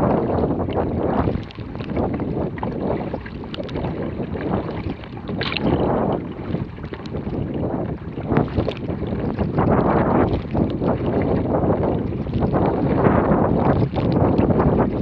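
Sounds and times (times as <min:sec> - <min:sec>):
paddle splashing: 0:00.0 - 0:15.0
water slapping kayak hull: 0:00.0 - 0:15.0
wind buffeting microphone: 0:00.0 - 0:15.0.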